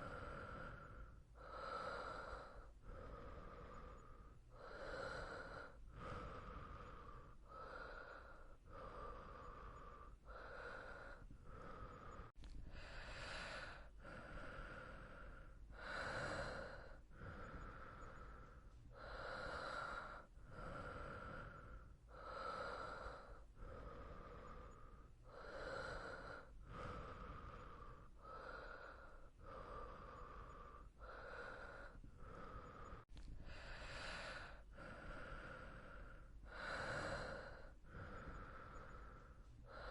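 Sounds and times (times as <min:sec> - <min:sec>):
person breathing: 0:00.0 - 0:39.9.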